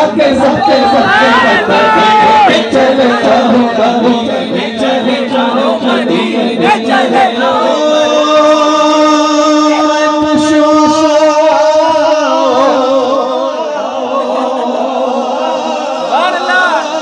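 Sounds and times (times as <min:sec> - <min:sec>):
crowd of men chanting: 0:00.0 - 0:17.0.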